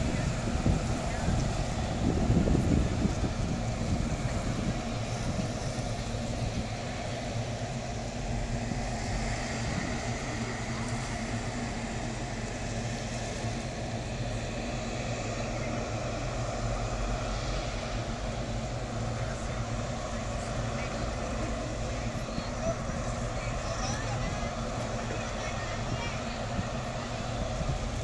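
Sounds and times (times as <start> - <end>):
ferry engines droning: 0.0 - 28.0.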